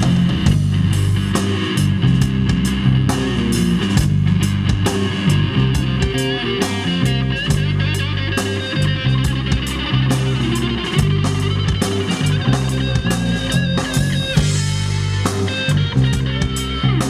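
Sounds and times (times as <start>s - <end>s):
bass guitar notes: 0.0s - 17.0s
drum kit with cymbals: 0.0s - 17.0s
electric guitar lead: 0.0s - 17.0s.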